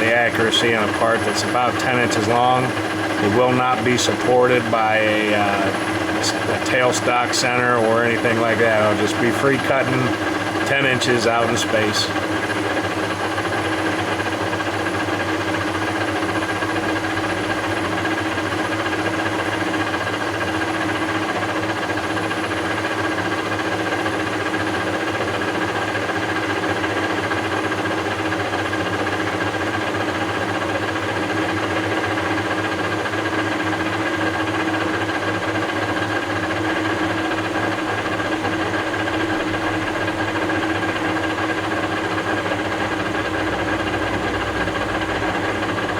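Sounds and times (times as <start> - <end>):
lathe running with whine: 0.0 - 45.9.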